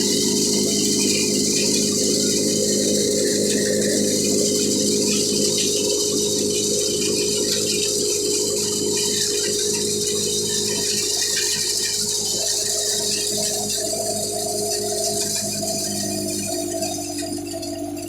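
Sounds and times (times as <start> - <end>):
machine hum: 0.0 - 18.0
thresher rattling and hissing: 0.0 - 18.0.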